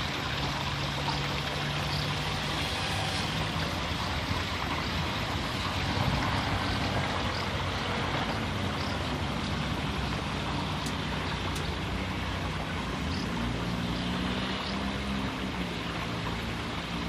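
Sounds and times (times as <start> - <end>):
low engine hum: 0.0 - 17.0
water babbling down a ditch: 0.0 - 17.0.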